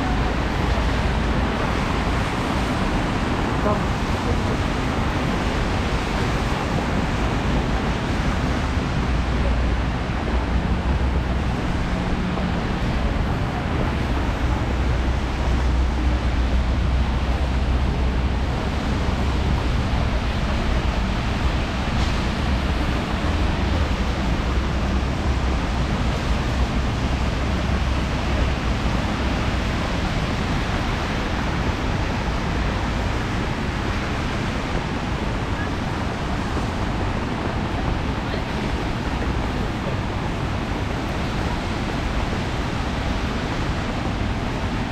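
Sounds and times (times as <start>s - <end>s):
low engine rumble: 0.0s - 44.9s.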